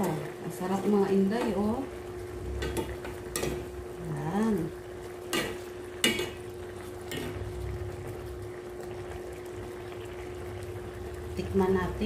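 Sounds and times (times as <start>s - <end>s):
liquid bubbling in a pan: 0.0s - 12.0s
steady hum: 0.0s - 12.0s.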